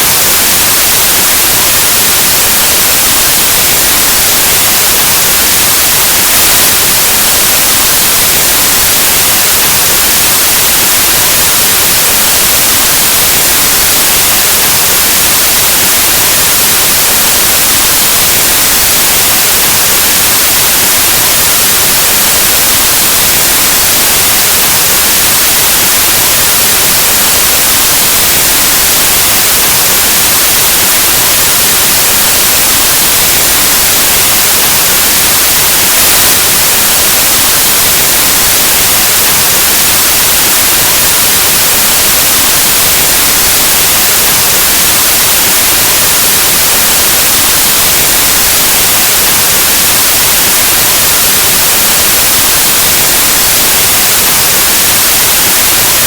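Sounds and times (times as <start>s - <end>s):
white noise static hiss: 0.0s - 56.0s.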